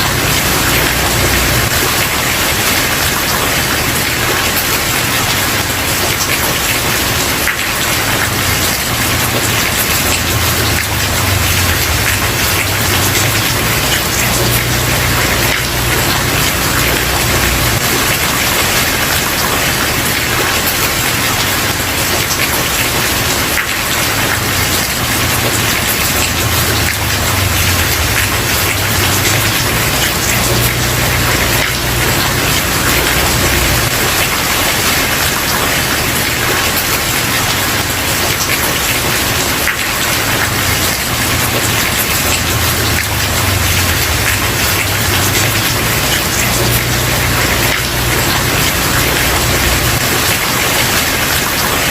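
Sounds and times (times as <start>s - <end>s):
heavy rain falling: 0.0s - 51.9s.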